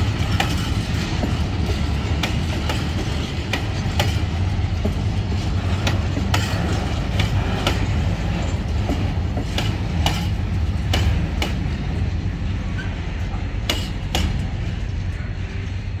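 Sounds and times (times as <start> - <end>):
freight wagons rumbling: 0.0 - 16.0
wheels clacking on rail joints: 0.0 - 16.0.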